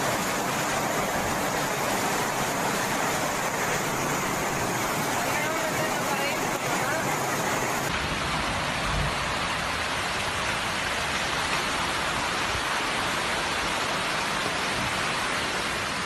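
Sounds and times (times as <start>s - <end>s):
floodwater rushing down a street: 0.0s - 16.0s
heavy rain: 0.0s - 16.0s.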